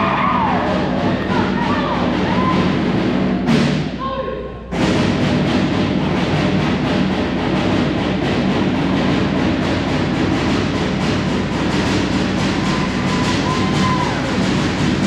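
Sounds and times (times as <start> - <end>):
fast steady drumming: 0.0 - 4.0, 4.7 - 15.0.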